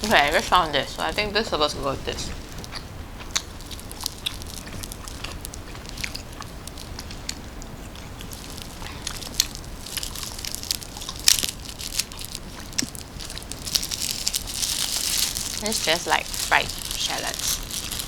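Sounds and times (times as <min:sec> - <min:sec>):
fried shallots crunching: 0:00.0 - 0:18.0.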